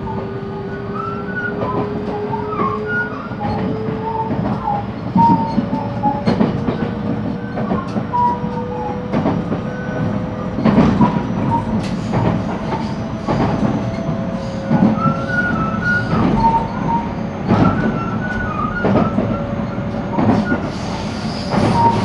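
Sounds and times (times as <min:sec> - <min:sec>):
rail joint clacks: 0:00.0 - 0:22.0
train rumble: 0:00.0 - 0:22.0.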